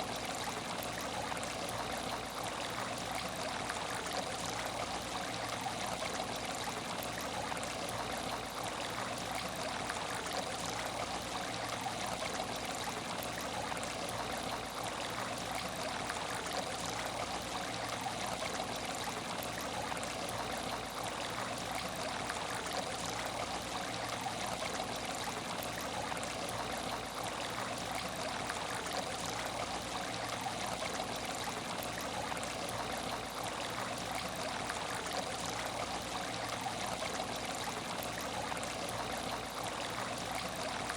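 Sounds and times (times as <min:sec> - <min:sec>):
water rushing in a tank: 0:00.0 - 0:40.9.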